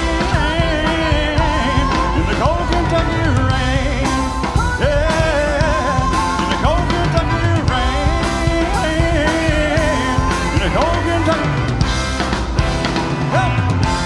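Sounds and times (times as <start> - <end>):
rock ballad by live band: 0.0 - 14.0
steady drum beat: 0.0 - 14.0.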